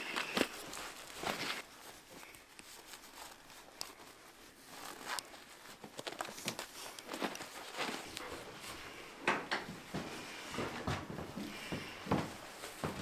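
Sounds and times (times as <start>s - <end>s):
clothing and gear rustling: 0.0s - 13.0s
footsteps: 0.0s - 13.0s.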